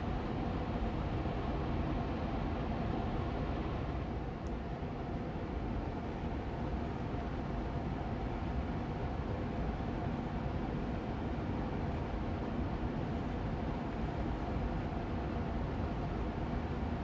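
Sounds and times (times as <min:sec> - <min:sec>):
air purifier fan humming: 0:00.0 - 0:17.0.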